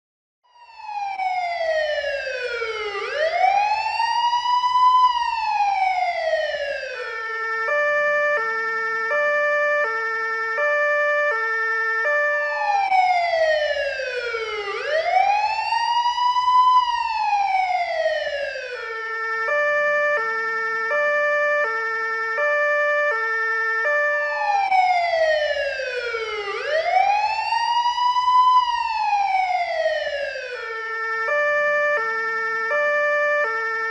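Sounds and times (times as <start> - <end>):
police car siren: 0.4 - 33.9.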